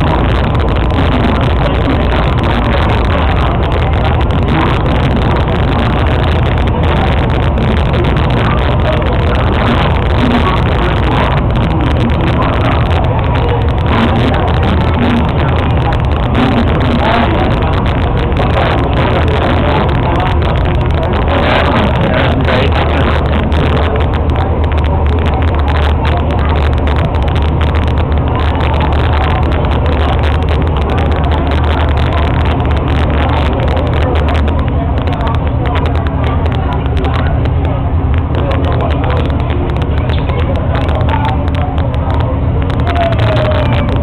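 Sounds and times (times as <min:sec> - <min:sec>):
boat engine rumbling: 0:00.0 - 0:44.0
water wash: 0:00.0 - 0:44.0.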